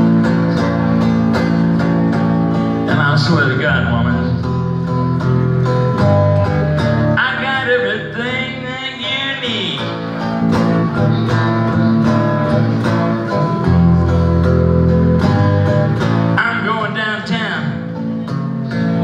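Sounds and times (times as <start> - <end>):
electric guitar bending notes: 0.0 - 19.0
low guitar accompaniment: 0.0 - 19.0.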